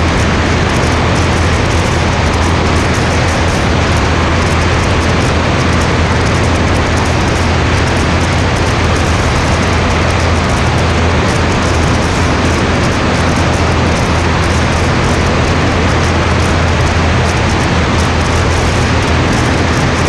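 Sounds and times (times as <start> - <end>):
airplane engine drone: 0.0 - 20.0
wind rushing: 0.0 - 20.0.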